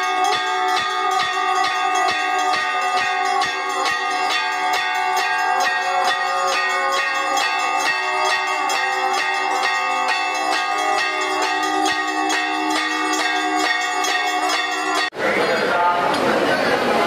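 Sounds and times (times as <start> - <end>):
brass bells rung rapidly: 0.0 - 15.2.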